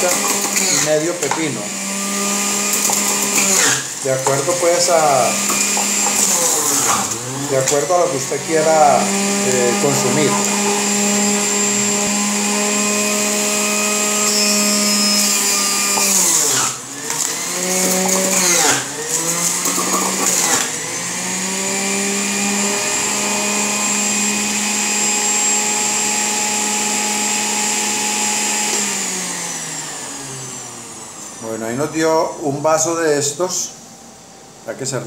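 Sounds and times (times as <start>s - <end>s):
electric juicer motor humming: 0.0s - 31.4s
juicer grinding vegetables: 0.0s - 31.4s.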